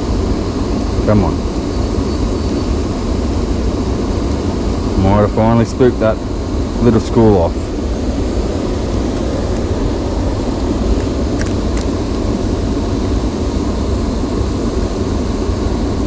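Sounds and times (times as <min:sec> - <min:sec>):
loud low rumbling noise: 0:00.0 - 0:16.0.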